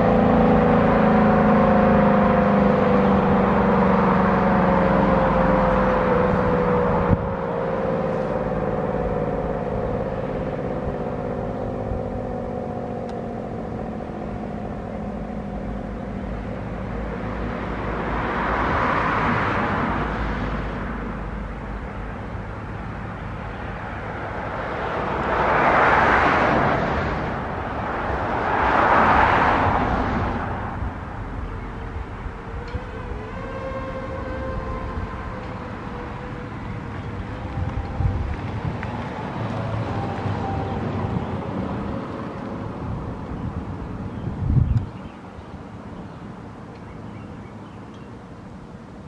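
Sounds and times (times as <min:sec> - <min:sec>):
rushing noise: 0:00.0 - 0:44.6
warning sirens winding down: 0:00.0 - 0:49.0.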